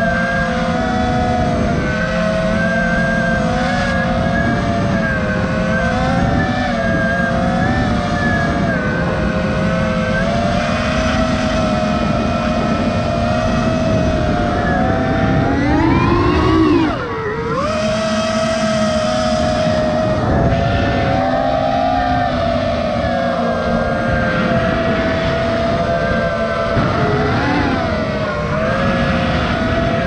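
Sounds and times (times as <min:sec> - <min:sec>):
quadcopter motors whining: 0:00.0 - 0:30.0
wind rush and prop wash: 0:00.0 - 0:30.0.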